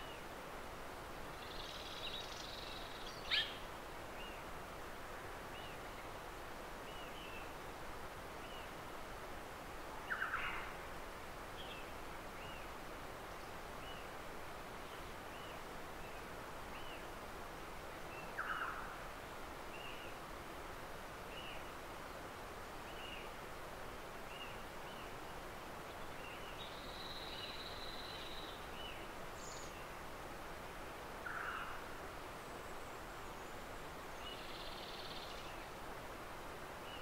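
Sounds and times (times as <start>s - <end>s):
steady forest hiss: 0.0s - 37.0s.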